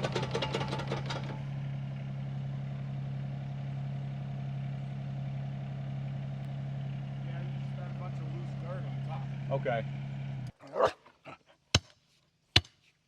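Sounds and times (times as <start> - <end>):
diesel engine idling: 0.0 - 10.5.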